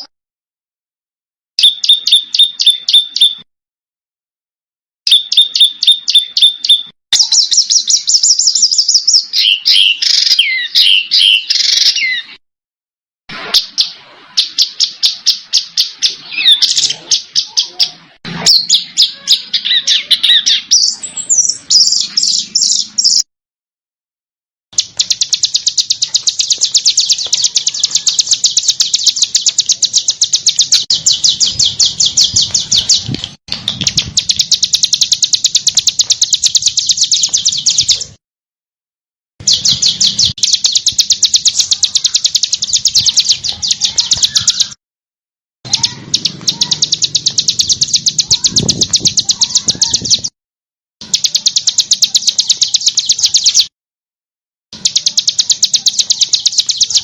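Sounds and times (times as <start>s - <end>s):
songbird singing rapid harsh notes: 1.6s - 3.4s, 5.1s - 12.4s, 13.3s - 23.3s, 24.8s - 38.2s, 39.4s - 44.8s, 45.7s - 50.4s, 51.0s - 53.7s, 54.8s - 57.0s.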